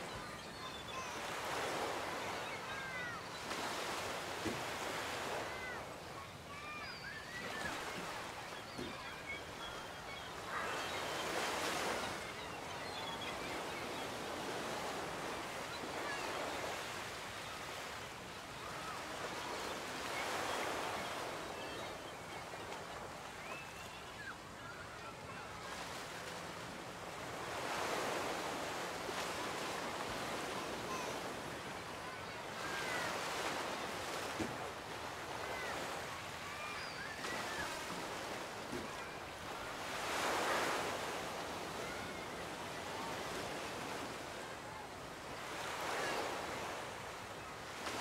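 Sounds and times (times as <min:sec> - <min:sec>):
ocean waves washing onto beach: 0:00.0 - 0:48.0.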